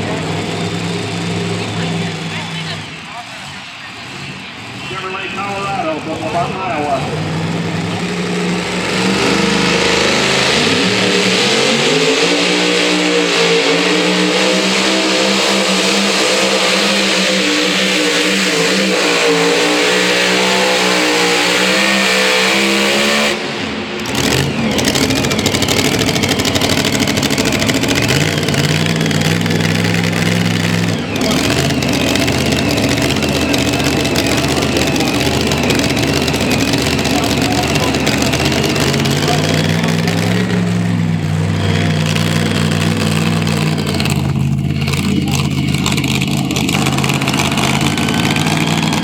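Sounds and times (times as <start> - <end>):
truck engine at full throttle: 0.0 - 49.0.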